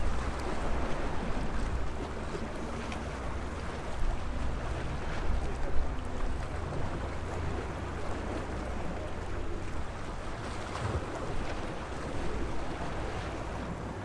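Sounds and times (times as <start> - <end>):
sea waves washing on shore: 0.0 - 14.0
wind rumbling on microphone: 0.0 - 14.0.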